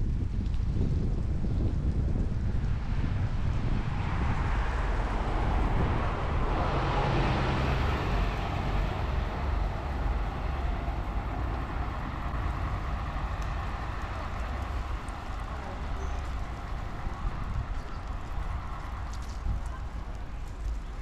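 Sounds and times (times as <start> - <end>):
low traffic rumble: 0.0 - 21.0
passing vehicle: 0.8 - 21.0.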